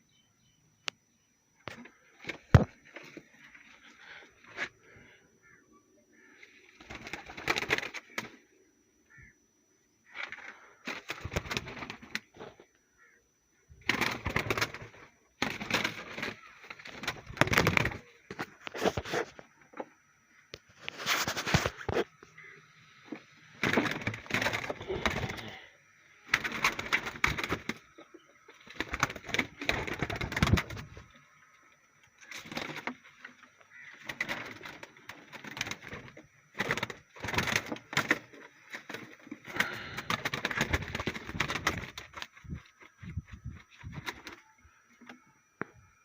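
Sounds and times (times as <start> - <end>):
birds crackling and clicking: 1.6 - 9.3, 9.9 - 46.0.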